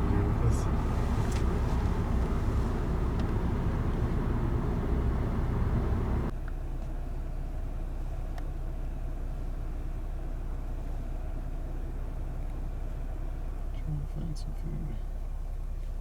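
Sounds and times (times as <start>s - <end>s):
road rumble inside vehicle: 0.0s - 16.0s.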